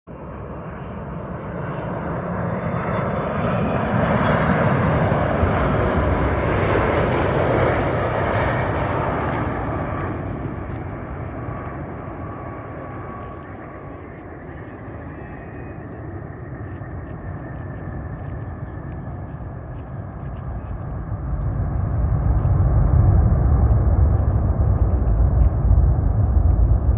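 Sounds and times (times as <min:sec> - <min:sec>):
jet airliner passing overhead: 0:00.1 - 0:26.9.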